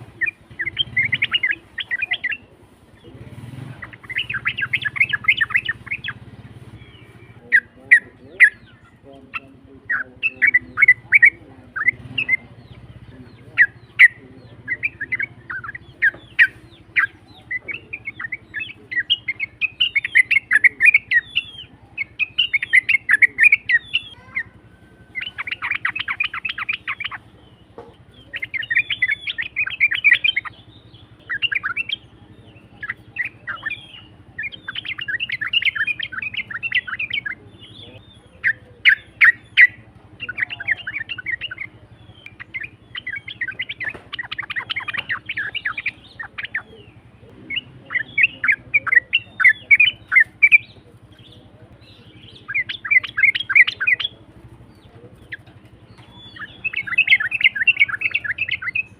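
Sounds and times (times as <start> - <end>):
bird singing chattering phrases: 0.0 - 58.9
faint low hum: 0.0 - 58.9.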